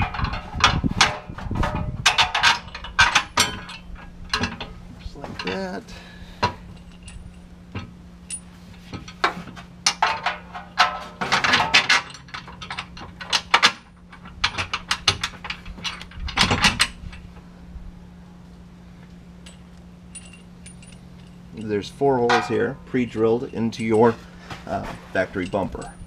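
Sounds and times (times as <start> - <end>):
metal hardware clinking: 0.0 - 5.8, 6.4 - 17.3, 19.4 - 26.0.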